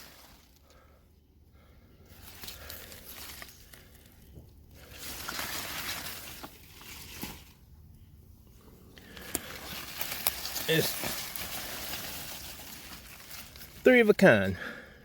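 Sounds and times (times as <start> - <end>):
leaves and soil rustling: 0.0 - 14.9.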